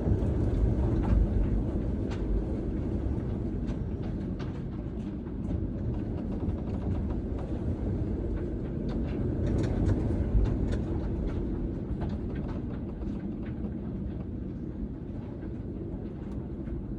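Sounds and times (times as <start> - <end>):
storm wind and sea rumble: 0.0 - 16.9.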